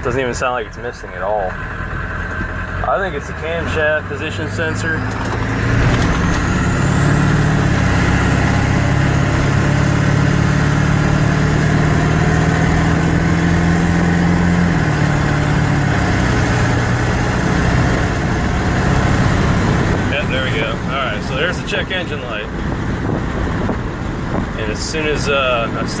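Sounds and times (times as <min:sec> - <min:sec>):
diesel truck engine: 0:00.0 - 0:26.0
road noise: 0:00.0 - 0:26.0.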